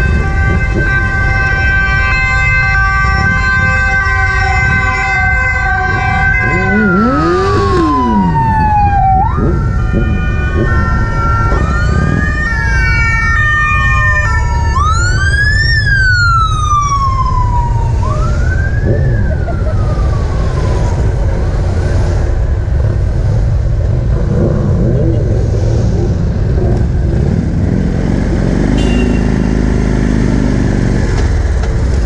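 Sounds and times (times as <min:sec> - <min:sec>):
motorcycle engines rumbling: 0:00.0 - 0:32.0
police motorcycle sirens wailing: 0:00.0 - 0:32.0.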